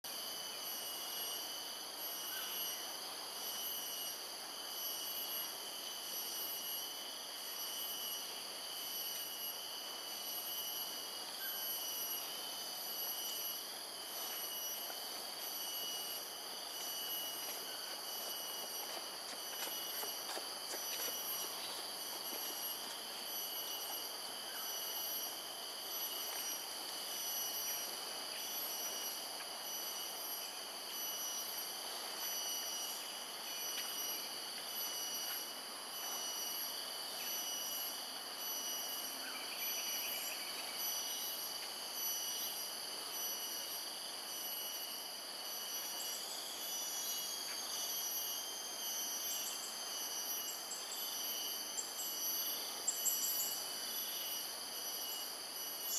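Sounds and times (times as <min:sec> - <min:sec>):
insects trilling: 0:00.1 - 0:55.9.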